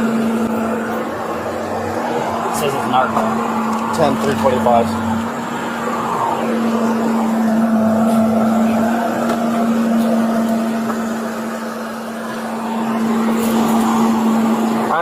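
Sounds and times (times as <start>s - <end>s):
motor vehicle hum: 0.0s - 15.0s
rushing haze: 0.0s - 15.0s.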